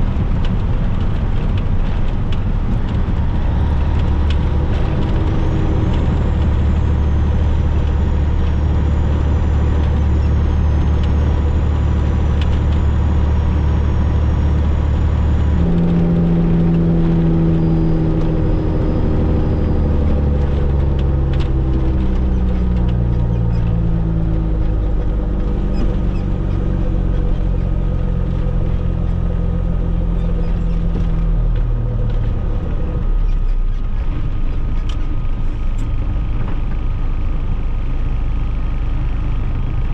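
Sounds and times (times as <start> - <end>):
road and wind noise: 0.0 - 39.9
truck diesel engine: 0.0 - 39.9.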